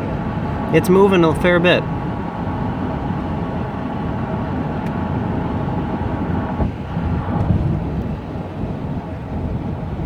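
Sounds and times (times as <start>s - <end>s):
car cabin road and engine noise: 0.0s - 10.0s.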